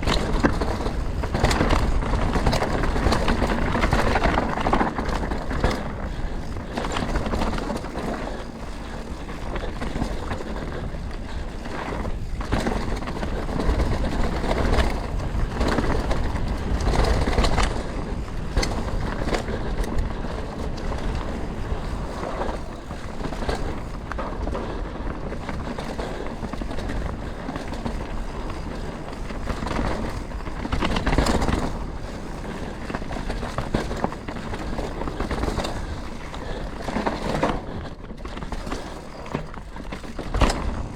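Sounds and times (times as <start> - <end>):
bike rattles and knocks: 0.0 - 40.9
bike tyres over dirt and rock: 0.0 - 40.9.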